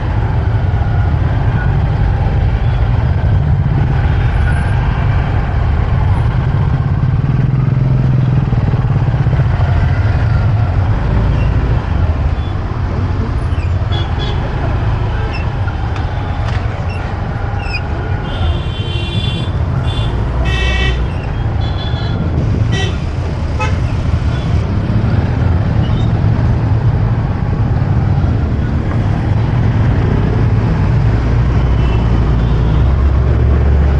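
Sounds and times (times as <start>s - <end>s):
motorbike engine and wind rumble: 0.0s - 33.9s.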